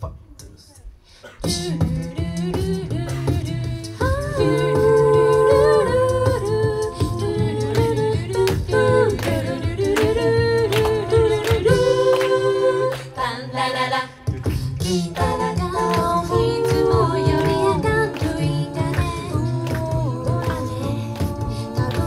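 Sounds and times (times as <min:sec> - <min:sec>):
a cappella group singing: 0:01.4 - 0:22.0.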